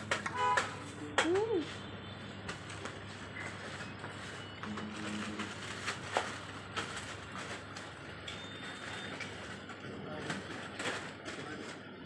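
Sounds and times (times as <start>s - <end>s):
shop counter clatter: 0.0s - 11.9s.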